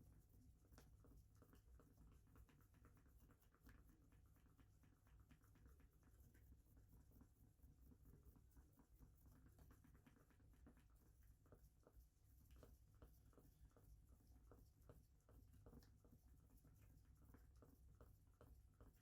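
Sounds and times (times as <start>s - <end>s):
faint scratching and clicking: 0.0s - 19.0s.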